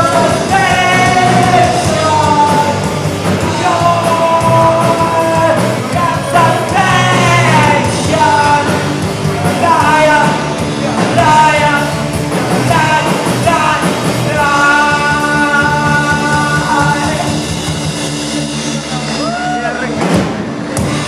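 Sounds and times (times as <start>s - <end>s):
person singing: 0.0s - 17.8s
punk rock band playing: 0.0s - 21.0s.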